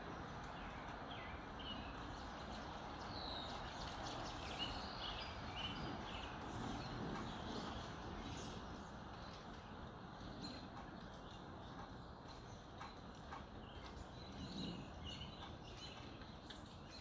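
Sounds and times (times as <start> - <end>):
songbirds chirping and whistling: 0.1 - 17.0.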